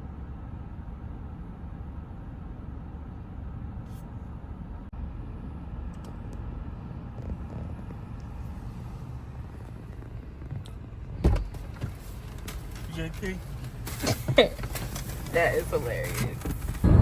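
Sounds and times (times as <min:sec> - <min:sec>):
car cabin rumble while driving: 0:00.0 - 0:17.0.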